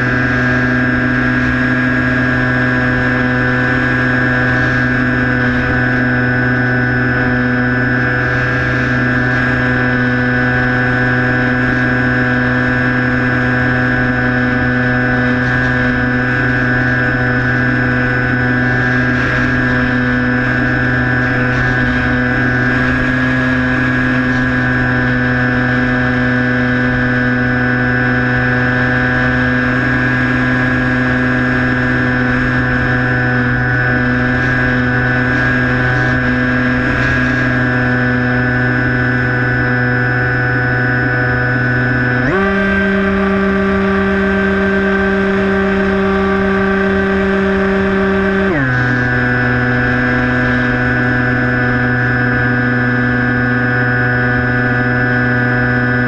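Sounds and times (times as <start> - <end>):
electric model plane motor whine: 0.0 - 56.0.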